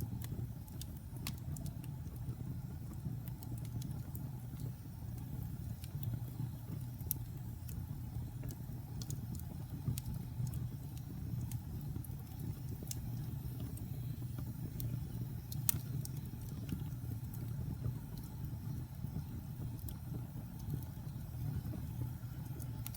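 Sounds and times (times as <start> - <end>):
fire crackles and pops: 0.0 - 22.9
low rumble of flames: 0.0 - 22.9.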